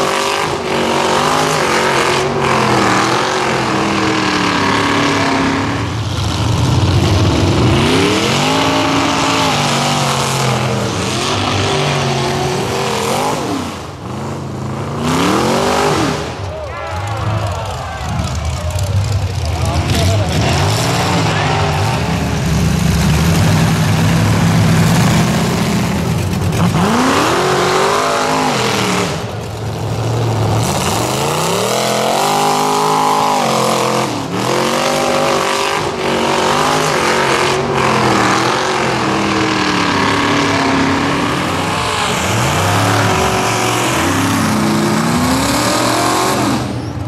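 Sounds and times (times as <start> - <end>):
pickup engine revving: 0.0 - 16.4, 18.2 - 47.0
tyres churning through mud: 0.0 - 47.0.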